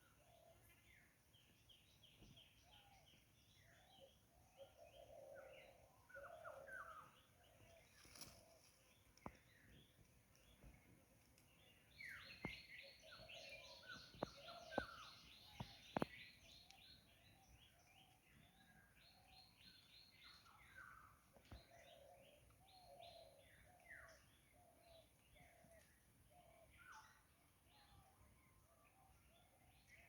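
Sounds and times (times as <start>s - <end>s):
birds chirping and calling: 2.2s - 10.9s, 11.5s - 28.0s.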